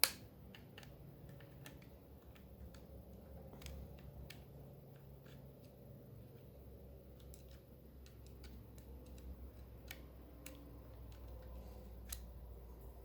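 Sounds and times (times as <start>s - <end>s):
small hard parts clicking: 0.0s - 12.5s
low steady hum: 0.0s - 13.0s.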